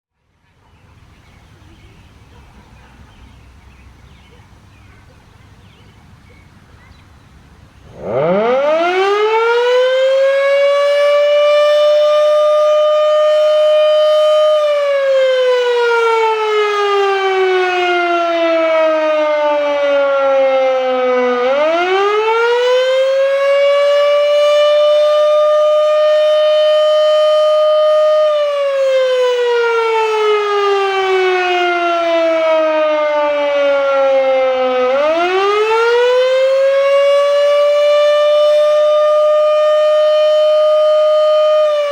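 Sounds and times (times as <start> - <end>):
fire siren winding up: 7.9 - 41.9.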